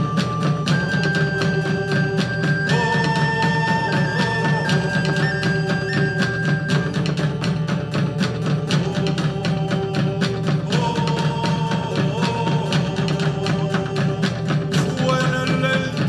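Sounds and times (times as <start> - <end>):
fast drumming: 0.0 - 16.0
held melody line: 0.0 - 16.0.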